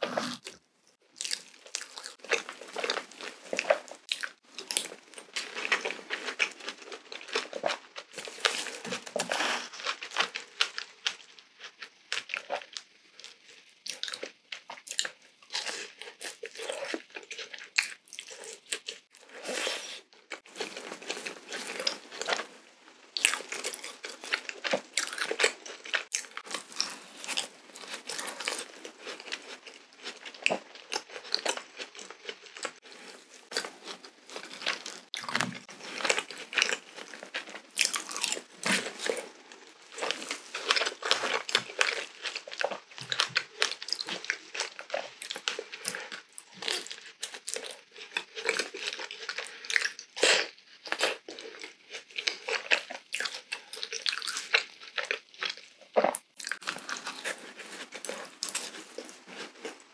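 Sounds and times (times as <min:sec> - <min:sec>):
chewing and biting doughnut: 0:00.0 - 0:59.9.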